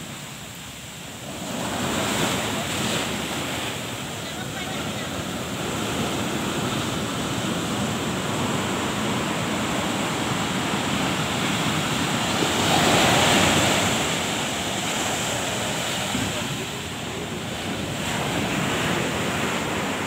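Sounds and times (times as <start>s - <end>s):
waves crashing on shore: 0.0s - 20.0s.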